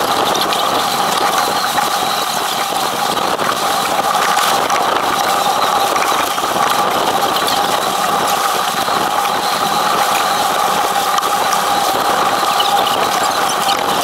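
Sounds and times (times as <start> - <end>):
constant tones: 0.0 - 14.0.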